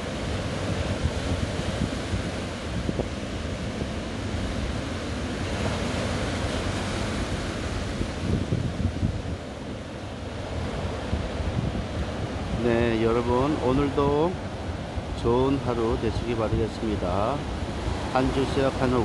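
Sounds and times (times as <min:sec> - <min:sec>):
surf breaking on sand beach: 0:00.0 - 0:16.1
wind buffeting microphone: 0:00.0 - 0:18.8.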